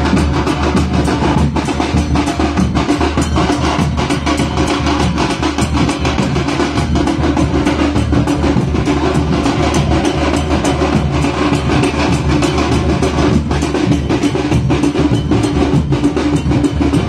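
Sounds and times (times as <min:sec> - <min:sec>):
drums beaten loudly and fast: 0:00.0 - 0:17.0.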